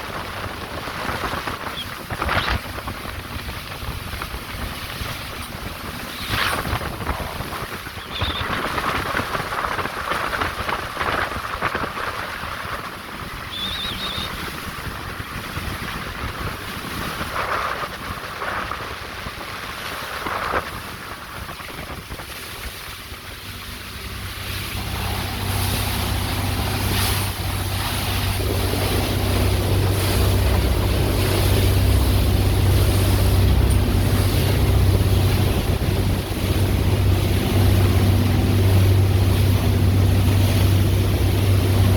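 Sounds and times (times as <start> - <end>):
boat engine drone: 0.0 - 41.9
water splashing on hull: 0.0 - 41.9
wind: 0.0 - 41.9.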